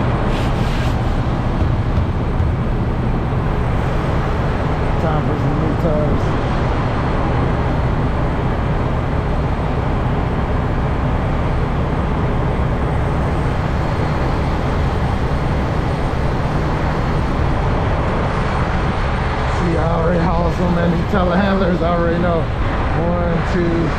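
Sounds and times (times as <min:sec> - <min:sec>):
diesel truck engine running: 0:00.0 - 0:23.9.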